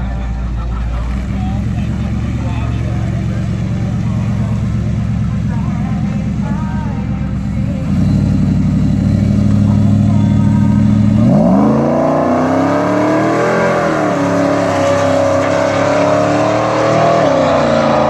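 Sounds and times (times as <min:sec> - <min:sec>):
truck engine idling and revving: 0:00.0 - 0:18.0.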